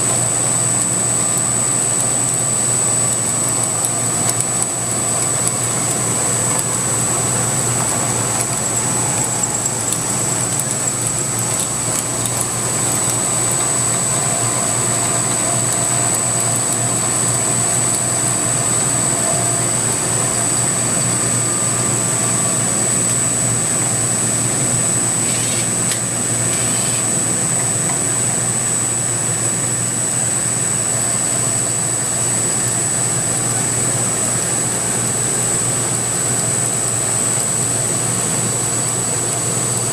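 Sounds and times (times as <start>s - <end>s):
milling machine whine and hum: 0.0s - 39.9s.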